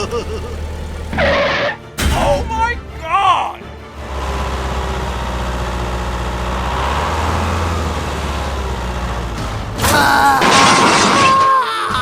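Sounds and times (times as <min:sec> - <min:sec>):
engine idling: 0:00.0 - 0:10.4.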